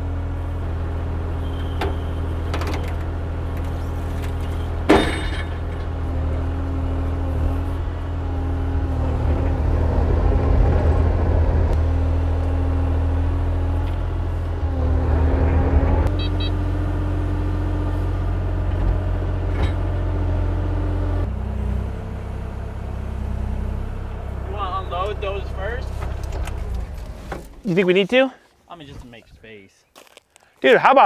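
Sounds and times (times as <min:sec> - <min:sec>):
excavator diesel engine running: 0:00.0 - 0:27.7.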